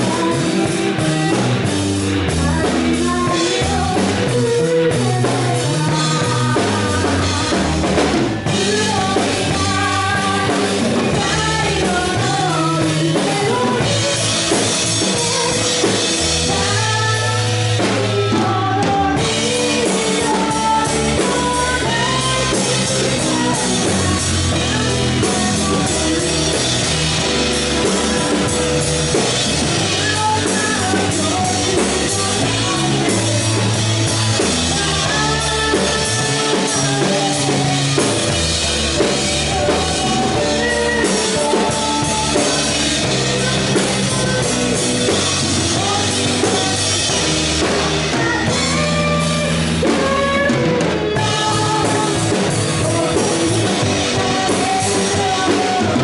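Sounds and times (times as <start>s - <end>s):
keyboard: 0.0s - 56.0s
live rock band playing: 0.0s - 56.0s
loud drum kit: 0.0s - 56.0s.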